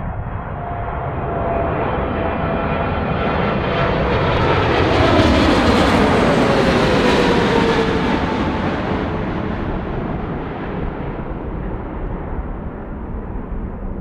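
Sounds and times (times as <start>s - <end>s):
jet engines passing by: 0.0s - 14.0s.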